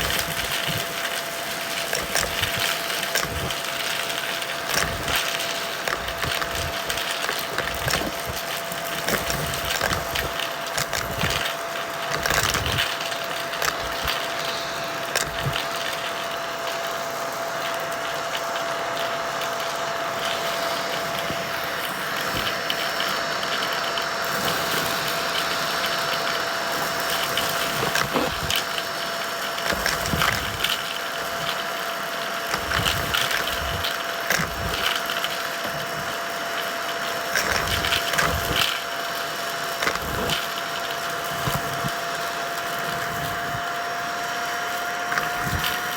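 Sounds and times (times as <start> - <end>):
debris crackling in vacuum: 0.0 - 45.9
vacuum cleaner running: 0.0 - 45.9.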